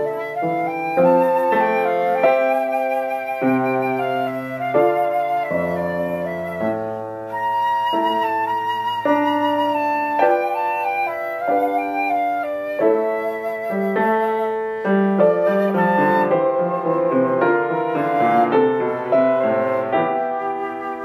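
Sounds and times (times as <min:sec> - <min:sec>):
flute melody: 0:00.0 - 0:21.0
piano chords: 0:00.0 - 0:21.0.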